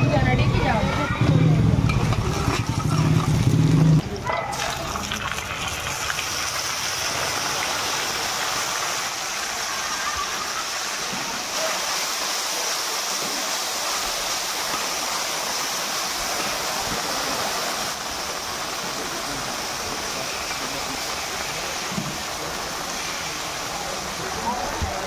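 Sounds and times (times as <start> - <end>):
food sizzling in hot oil: 0.1 - 25.0.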